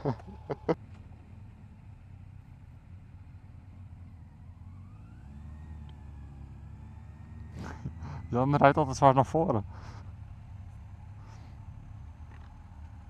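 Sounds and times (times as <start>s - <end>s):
motorcycle engines idling: 0.0s - 13.0s
motorcycle pulling away: 0.0s - 13.0s.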